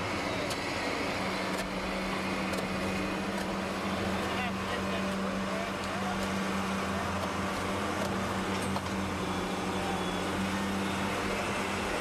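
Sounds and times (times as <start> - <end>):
heavy machinery engine running: 0.0 - 12.0.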